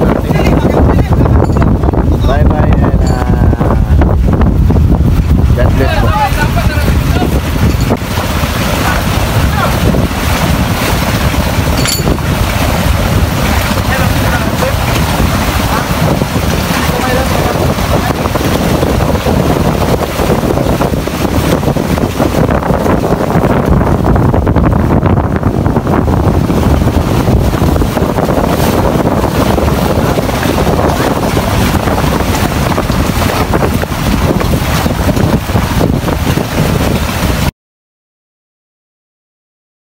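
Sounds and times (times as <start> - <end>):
boat engine running: 0.0 - 37.5
water rushing: 0.0 - 37.5
wind buffeting microphone: 0.0 - 37.5.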